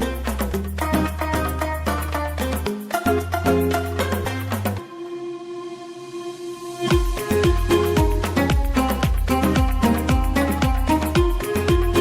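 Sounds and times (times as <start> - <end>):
upbeat music with bass line: 0.0 - 5.2, 6.8 - 12.0.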